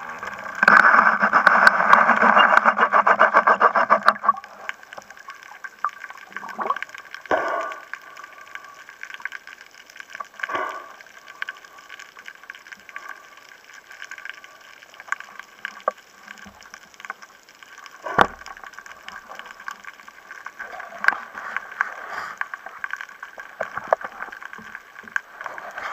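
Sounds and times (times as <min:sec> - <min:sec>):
muffled underwater water noise: 0:00.0 - 0:25.9.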